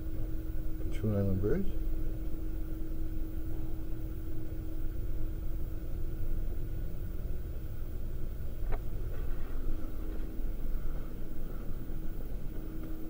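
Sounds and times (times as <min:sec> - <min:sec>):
faint constant hum: 0:00.0 - 0:13.0
low room rumble: 0:00.0 - 0:13.0.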